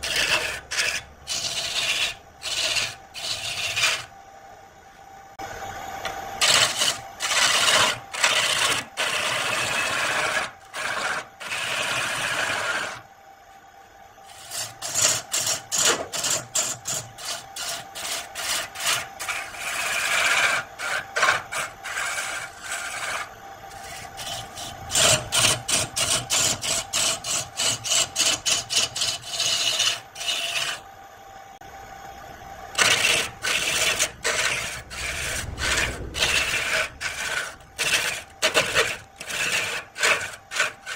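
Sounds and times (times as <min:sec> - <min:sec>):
gouge scraping spinning wood: 0:00.0 - 0:04.2, 0:06.4 - 0:13.1, 0:14.2 - 0:30.9, 0:32.7 - 0:40.9
lathe humming: 0:00.0 - 0:13.1, 0:14.2 - 0:40.9.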